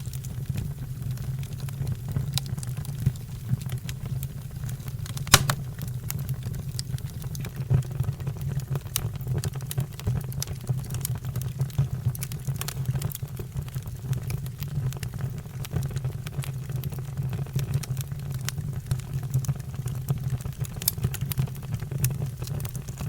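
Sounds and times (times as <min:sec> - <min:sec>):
fire crackling and popping: 0:00.1 - 0:23.0.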